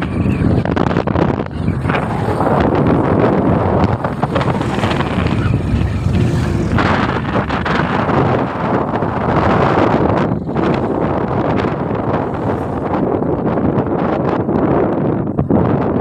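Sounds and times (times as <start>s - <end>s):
road and vehicle noise: 0.0s - 16.0s
wind buffeting microphone: 0.0s - 16.0s.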